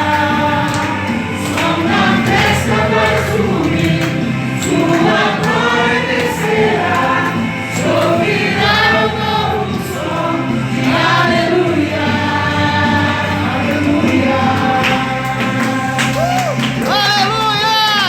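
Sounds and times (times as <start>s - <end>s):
group of voices singing: 0.0s - 18.0s.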